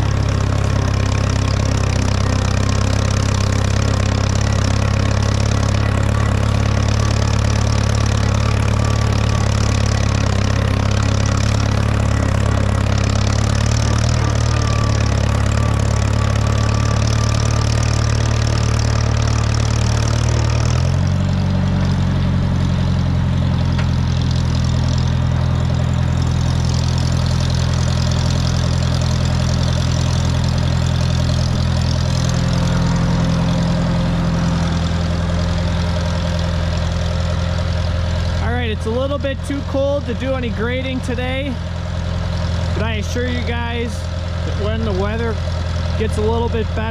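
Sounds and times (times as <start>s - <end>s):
road grader engine running: 0.0s - 46.9s.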